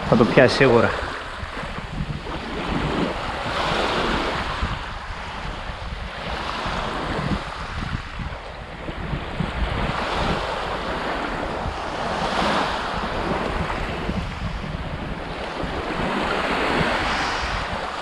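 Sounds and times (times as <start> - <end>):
wind buffeting microphone: 0.0 - 18.0
small waves on pebble beach: 0.1 - 8.1, 9.6 - 18.0.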